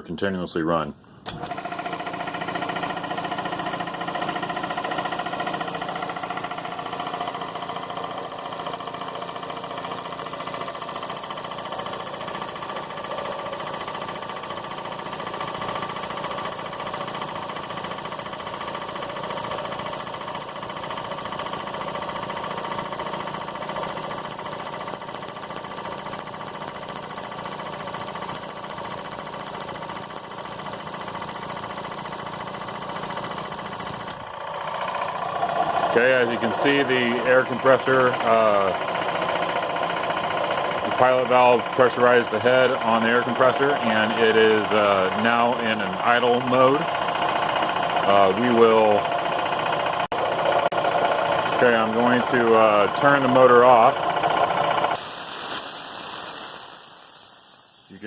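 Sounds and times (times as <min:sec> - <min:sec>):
air compressor running: 0:01.0 - 0:58.0.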